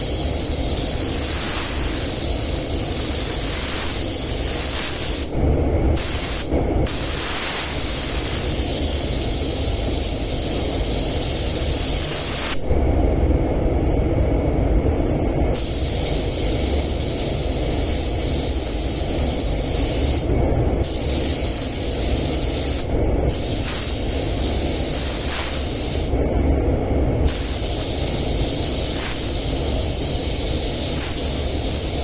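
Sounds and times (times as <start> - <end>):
paint spray gun hissing: 0.0 - 5.3, 6.0 - 12.6, 15.6 - 26.2, 27.3 - 32.0
steady low rumble: 0.0 - 32.0.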